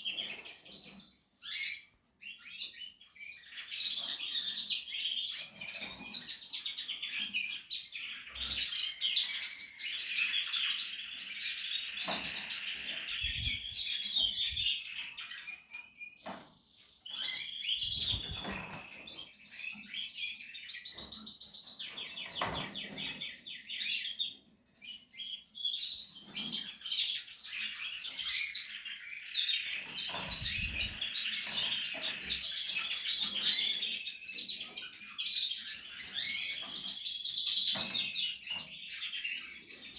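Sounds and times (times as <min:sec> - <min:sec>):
canaries chirping and twittering: 0:00.0 - 0:39.9.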